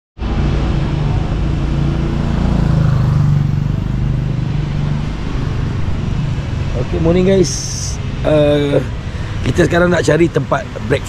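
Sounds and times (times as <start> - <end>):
traffic noise: 0.2 - 11.0
vehicle engine droning: 0.2 - 11.0.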